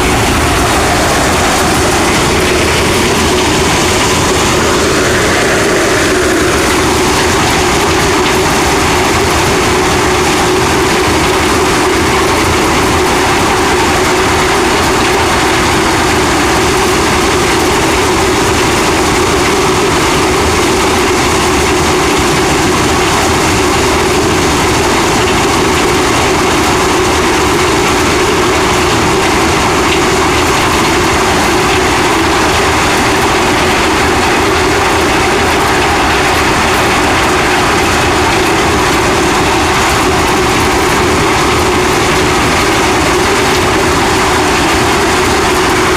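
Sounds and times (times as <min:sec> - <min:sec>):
heavy farm machinery drone: 0:00.0 - 0:45.9.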